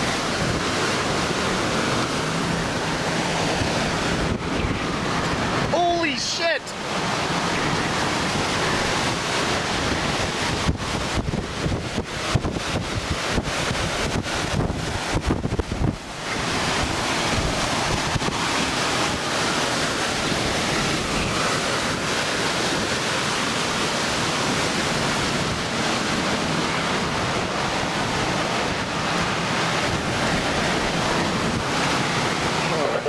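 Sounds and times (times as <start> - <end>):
wind on microphone: 0.0 - 5.8, 7.2 - 32.8.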